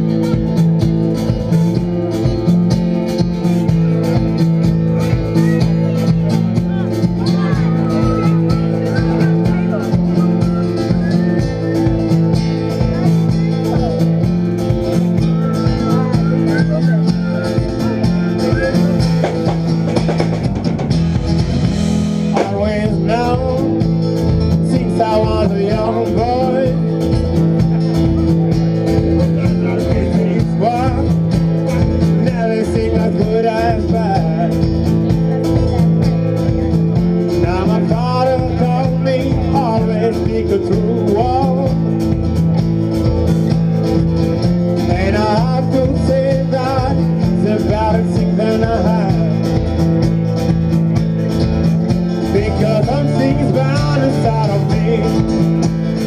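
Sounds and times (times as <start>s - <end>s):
drum kit beat: 0.0s - 56.0s
guitar: 0.0s - 56.0s
person singing: 3.8s - 20.0s, 22.3s - 42.3s, 44.7s - 50.3s, 51.8s - 56.0s.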